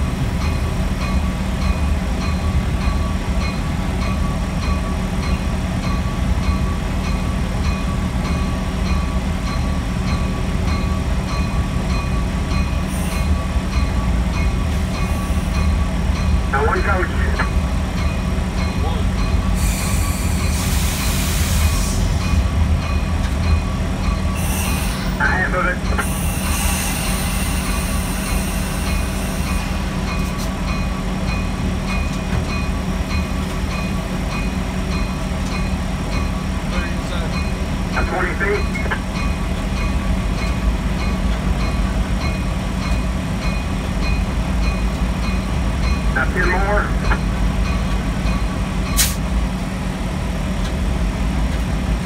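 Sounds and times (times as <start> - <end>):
locomotive engine drone: 0.0 - 52.0.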